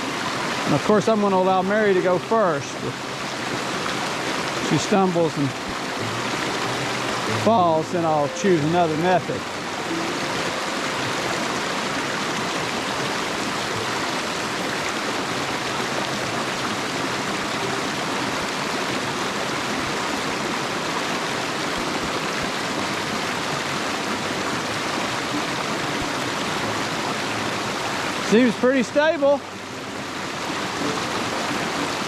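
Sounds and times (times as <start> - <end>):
creek rushing: 0.0 - 32.0.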